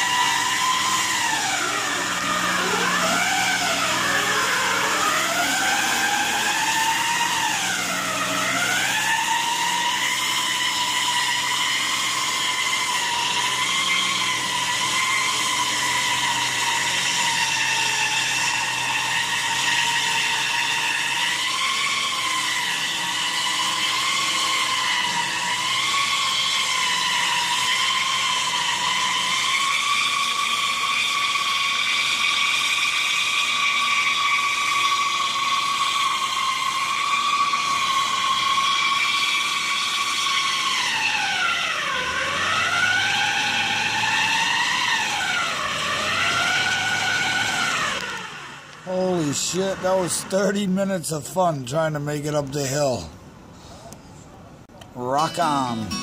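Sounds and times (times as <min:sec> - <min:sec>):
truck wheels spinning on ice: 0:00.0 - 0:53.1.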